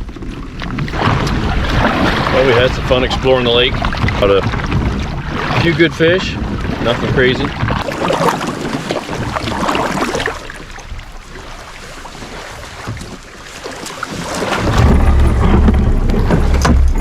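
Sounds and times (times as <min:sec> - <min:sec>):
wind buffeting microphone: 0:00.0 - 0:13.4, 0:14.1 - 0:17.0.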